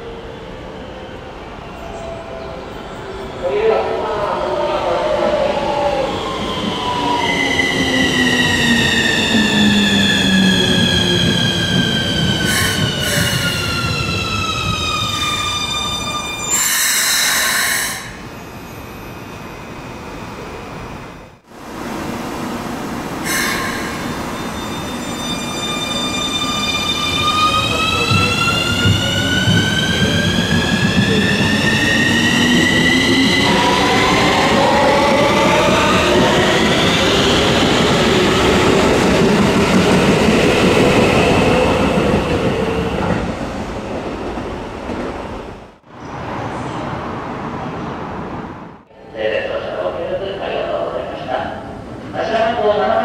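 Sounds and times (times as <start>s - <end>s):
steady train noise: 0.0s - 53.0s.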